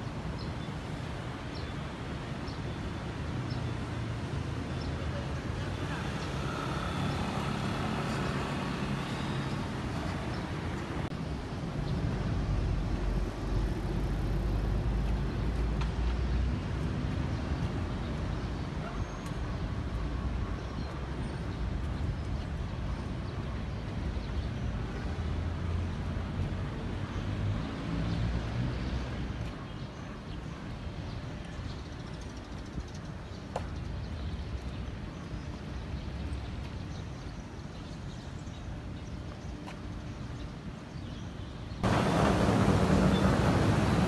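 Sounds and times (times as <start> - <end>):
road traffic: 0.0 - 44.0.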